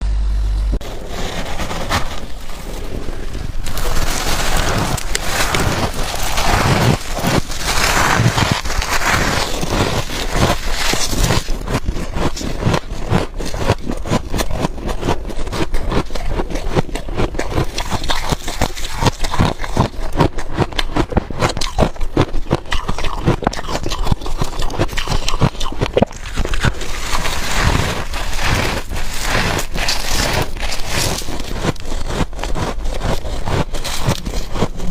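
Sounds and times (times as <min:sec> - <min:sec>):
crunching frost in mouth: 0:00.8 - 0:34.9
frost being scraped: 0:00.8 - 0:34.9.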